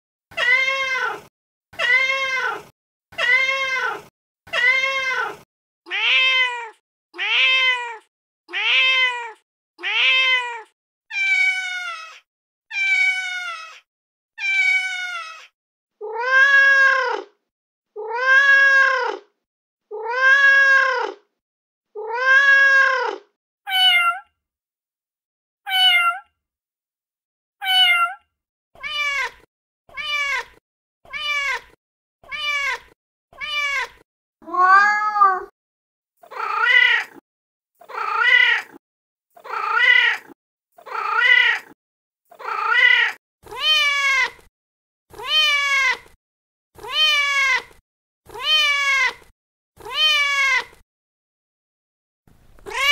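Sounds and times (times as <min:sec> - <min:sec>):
cat meows: 0:00.3 - 0:19.3, 0:19.9 - 0:21.2, 0:21.9 - 0:24.3, 0:25.7 - 0:26.3, 0:27.6 - 0:35.5, 0:36.2 - 0:37.2, 0:37.8 - 0:38.8, 0:39.4 - 0:44.5, 0:45.1 - 0:46.2, 0:46.8 - 0:50.8, 0:52.6 - 0:52.9.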